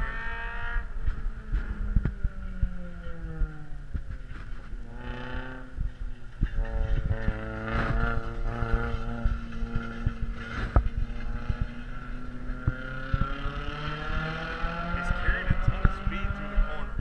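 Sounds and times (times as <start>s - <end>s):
race car engines: 0.0s - 17.0s
wind thumping microphone: 0.0s - 17.0s.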